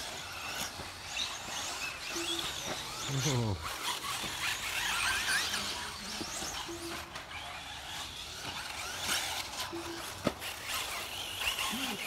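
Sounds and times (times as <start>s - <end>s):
electric rc car motors whining: 0.0s - 12.0s.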